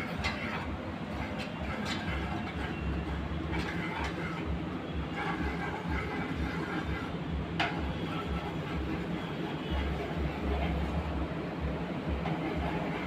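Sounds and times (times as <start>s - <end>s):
garlic sauteing in oil: 0.0s - 13.0s.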